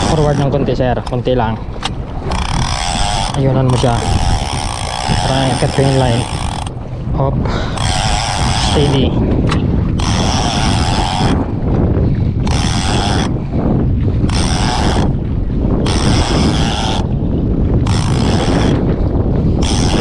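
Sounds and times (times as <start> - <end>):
fishing reel whirring: 0.0 - 1.2, 1.9 - 7.0, 7.7 - 11.7, 12.4 - 20.0
boat noise: 0.0 - 20.0
wind on microphone: 0.0 - 20.0.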